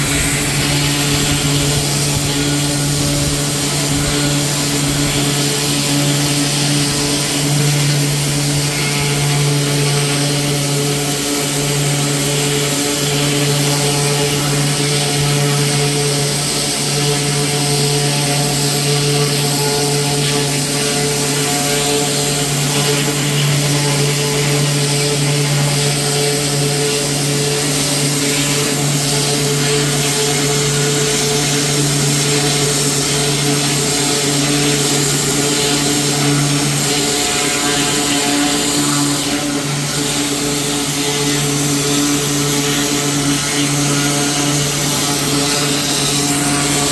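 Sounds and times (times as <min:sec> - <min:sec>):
loud hiss of spray: 0:00.0 - 0:08.7, 0:09.6 - 0:46.9
small gasoline engine droning: 0:00.0 - 0:46.9.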